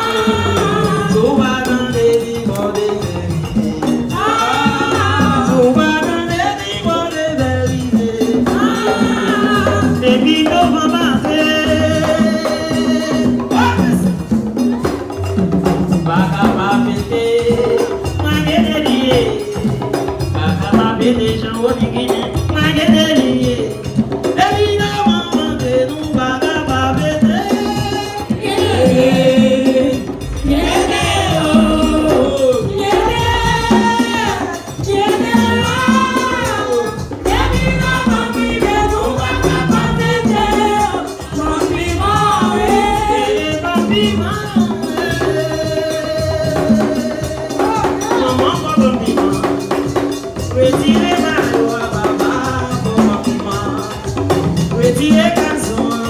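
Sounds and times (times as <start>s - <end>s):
hand drums and percussion: 0.0s - 56.0s
people singing: 0.0s - 56.0s.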